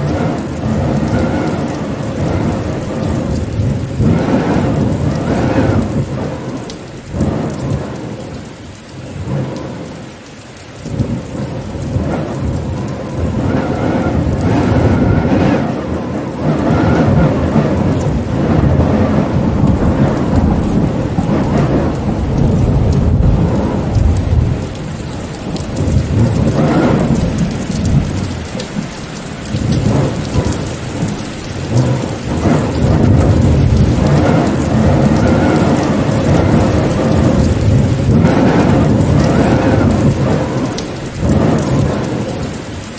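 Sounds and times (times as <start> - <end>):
deep rumble of thunder: 0.0 - 10.1, 10.8 - 42.9
steady rain: 0.0 - 42.9.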